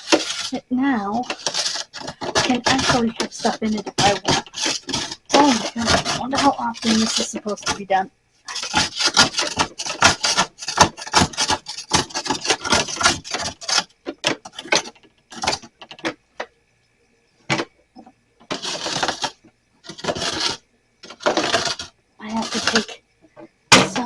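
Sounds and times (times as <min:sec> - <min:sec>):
rapid rubbing: 0:00.0 - 0:16.2, 0:18.4 - 0:23.0
knocking of handled objects: 0:01.2 - 0:16.5, 0:17.5 - 0:24.0.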